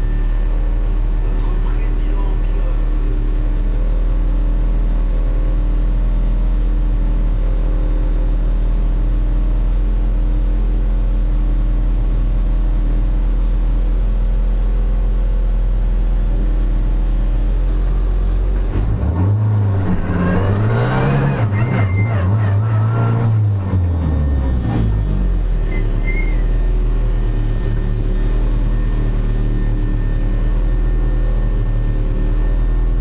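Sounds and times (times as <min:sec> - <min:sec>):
race car engine idling and revving: 0:00.0 - 0:33.0.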